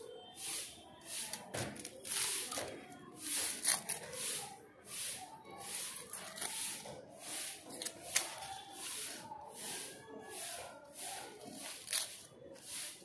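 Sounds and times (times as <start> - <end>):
knife scraping onion skin: 0.5 - 9.9, 10.5 - 13.0.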